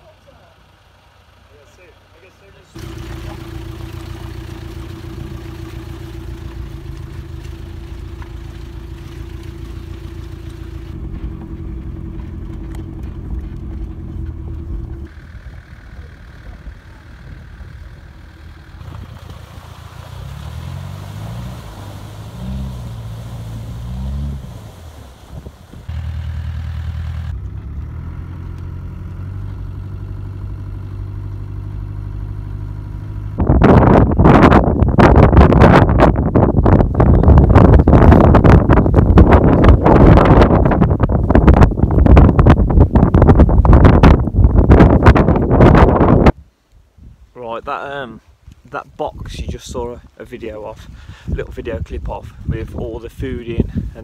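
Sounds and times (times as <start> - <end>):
off-road engine running: 0.0 - 46.4.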